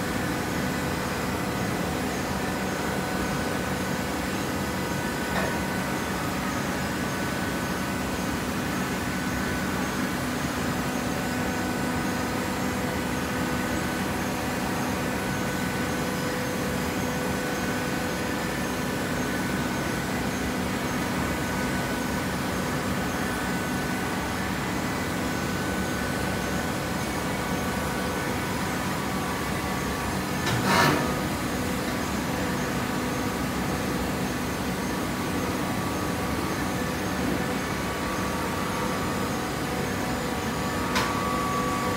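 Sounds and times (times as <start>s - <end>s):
hydraulic baler humming and whining: 0.0s - 41.9s.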